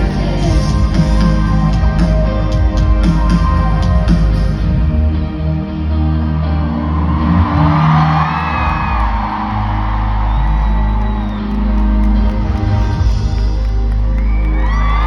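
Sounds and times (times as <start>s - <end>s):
audience cheering and screaming: 0.0s - 4.7s, 6.3s - 15.0s.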